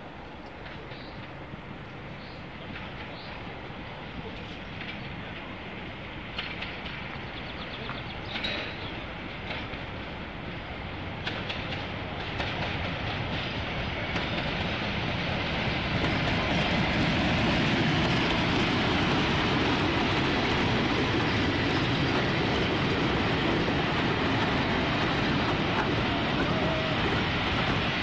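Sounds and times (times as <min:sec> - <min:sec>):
diesel locomotive engine running: 0:00.0 - 0:28.0
train wheels rolling on track: 0:00.0 - 0:28.0.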